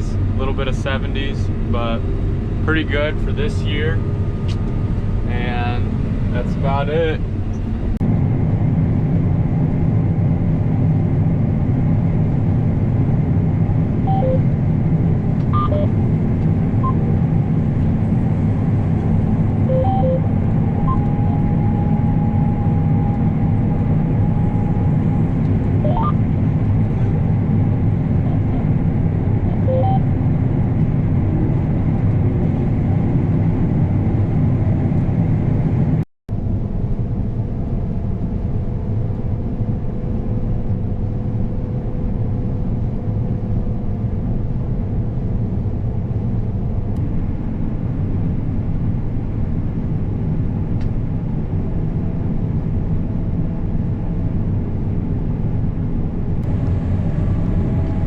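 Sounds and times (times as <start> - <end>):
combine harvester running: 0.0 - 53.0, 54.5 - 58.0.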